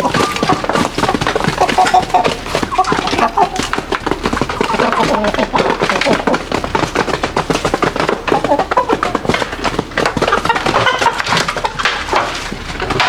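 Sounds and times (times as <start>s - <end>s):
chickens calling: 0.0s - 13.0s.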